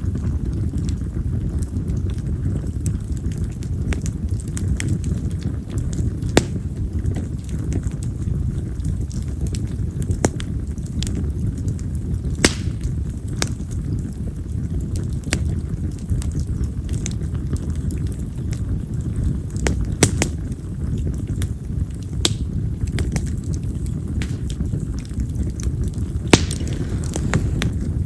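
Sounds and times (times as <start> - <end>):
fire rumbling: 0.0 - 28.0
firewood crackling and popping: 0.0 - 28.0.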